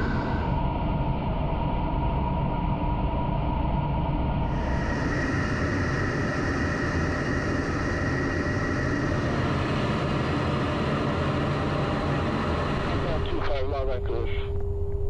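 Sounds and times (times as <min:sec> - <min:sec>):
faint high whine: 0:00.0 - 0:15.0
jet engine and airflow noise: 0:00.0 - 0:15.0.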